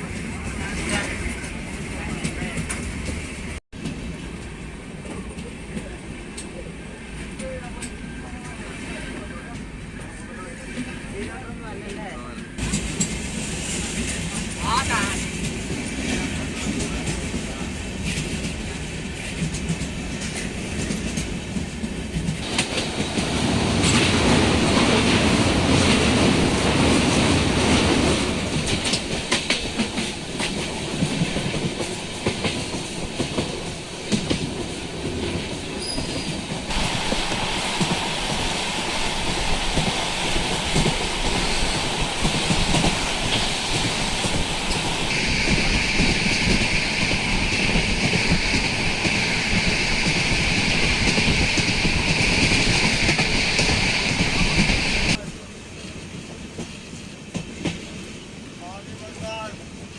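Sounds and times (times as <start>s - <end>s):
train wheels clattering on rails: 0.0s - 8.6s, 11.2s - 59.6s.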